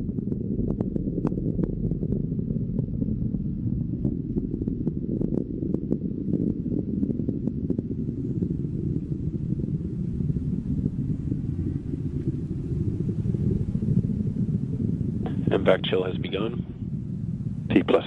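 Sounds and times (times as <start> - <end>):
rocket engine rumbling: 0.0 - 18.0.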